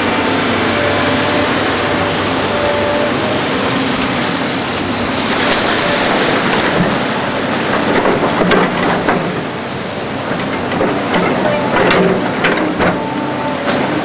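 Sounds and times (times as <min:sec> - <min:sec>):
excavator diesel engine running: 0:00.0 - 0:14.0
water rushing: 0:00.0 - 0:14.0.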